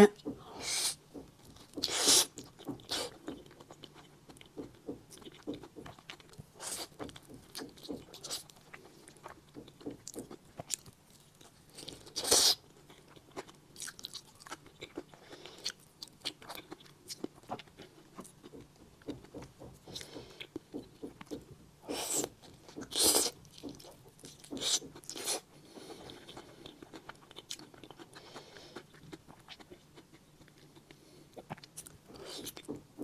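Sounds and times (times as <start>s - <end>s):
close chewing and biting: 0.7s - 33.0s.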